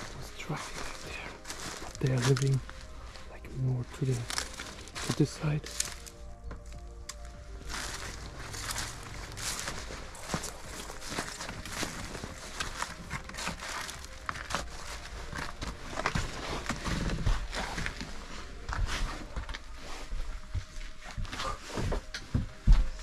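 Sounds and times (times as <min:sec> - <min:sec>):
footsteps crunching over debris: 0:00.0 - 0:23.0.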